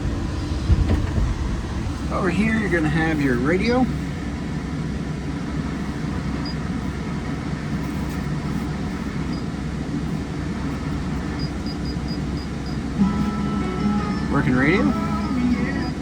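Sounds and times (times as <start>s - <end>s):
diesel engine low hum: 0.0s - 16.0s.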